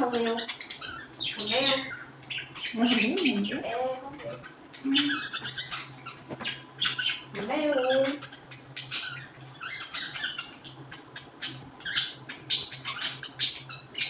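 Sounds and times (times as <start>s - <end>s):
birds chirping and squawking: 0.0s - 14.0s.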